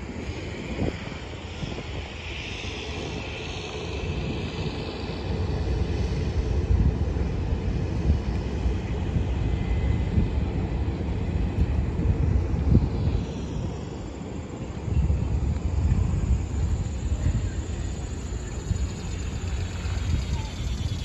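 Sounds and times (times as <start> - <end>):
propeller engine rumble: 0.0 - 21.0
wind buffeting microphone: 0.0 - 21.0.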